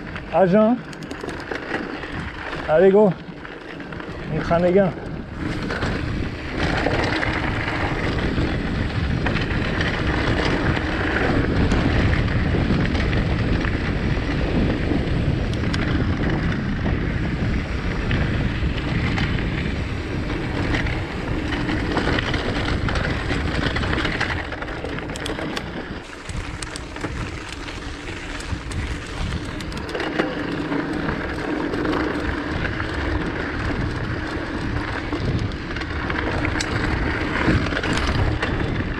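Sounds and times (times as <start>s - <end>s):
bike tyres rolling over dirt: 0.0s - 38.9s
wind noise on microphone: 0.0s - 38.9s.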